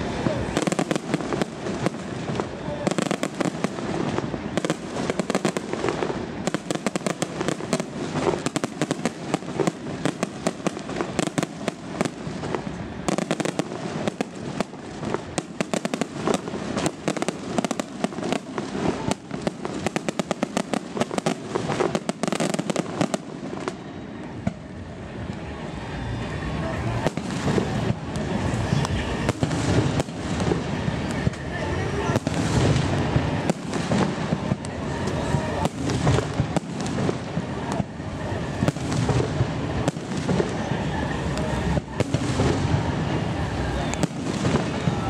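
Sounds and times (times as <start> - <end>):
fireworks bangs and crackling: 0.0 - 45.0.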